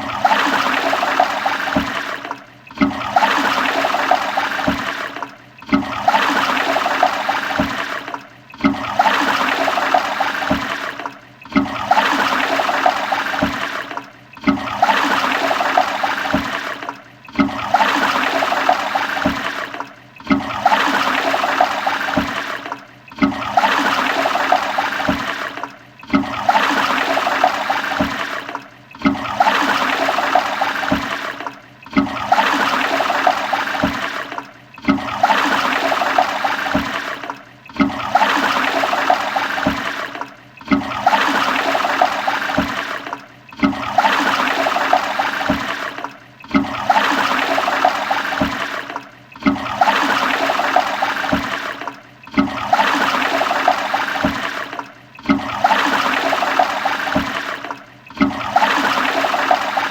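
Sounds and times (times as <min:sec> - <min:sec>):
toilet flushing: 0:00.0 - 0:59.9.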